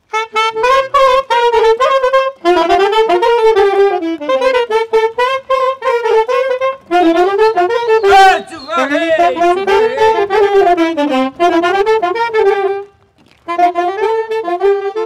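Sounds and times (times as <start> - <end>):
soprano saxophone folk melody: 0.0 - 15.0.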